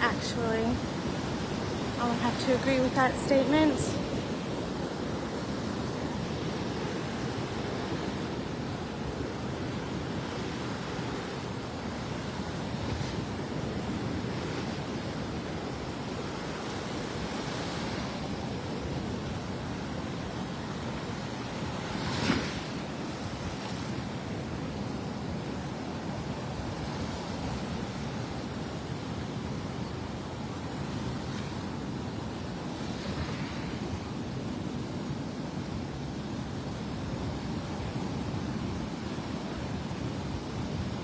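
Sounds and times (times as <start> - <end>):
surf washing onto beach: 0.0 - 41.0.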